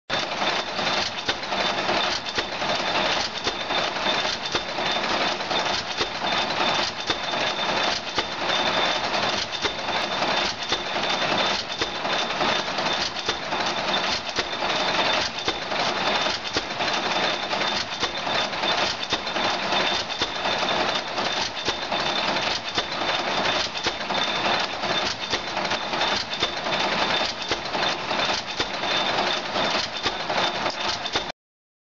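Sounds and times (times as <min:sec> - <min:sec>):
stationary engine clattering: 0:00.1 - 0:31.3.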